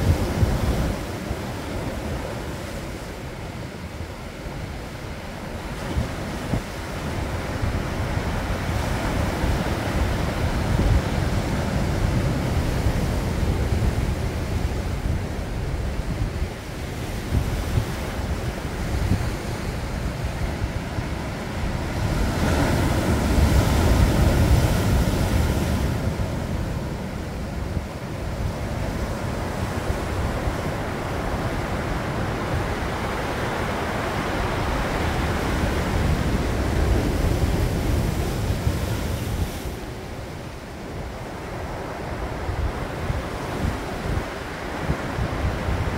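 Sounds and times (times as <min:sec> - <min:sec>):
surf washing on rocky shore: 0:00.0 - 0:45.9
wind rumble on microphone: 0:00.0 - 0:45.9.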